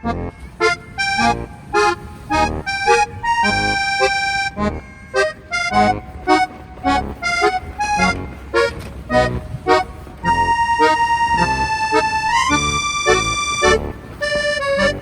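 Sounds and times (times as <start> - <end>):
bouncy tune with bass beat: 0.0 - 14.0.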